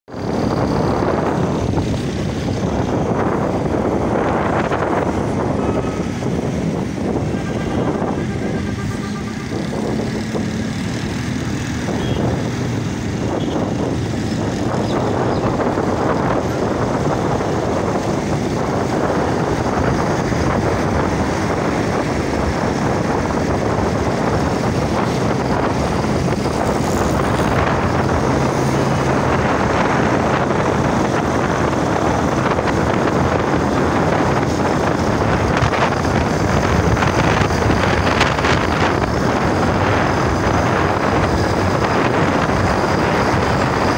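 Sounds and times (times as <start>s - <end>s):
motorcycle engine and road noise: 0.0s - 43.9s.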